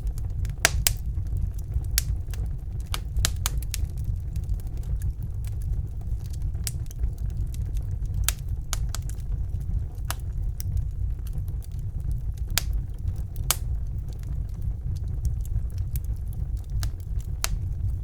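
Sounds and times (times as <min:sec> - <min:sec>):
fire crackling and popping: 0:00.0 - 0:18.0
fire rumbling: 0:00.0 - 0:18.0.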